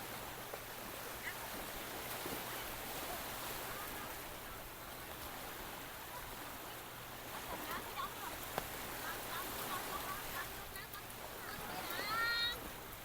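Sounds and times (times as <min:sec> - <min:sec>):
sea surf: 0:00.0 - 0:13.0
wind: 0:00.0 - 0:13.0.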